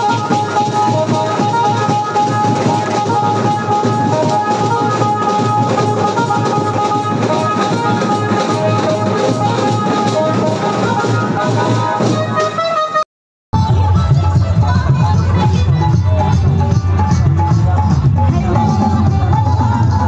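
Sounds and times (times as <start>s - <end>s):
loud music with drum beat: 0.0s - 12.9s, 13.5s - 20.0s.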